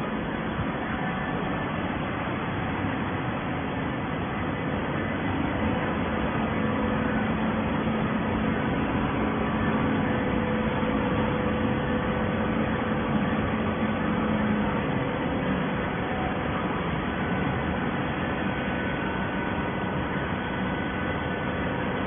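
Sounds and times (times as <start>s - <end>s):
baler machine hum: 0.0s - 22.0s.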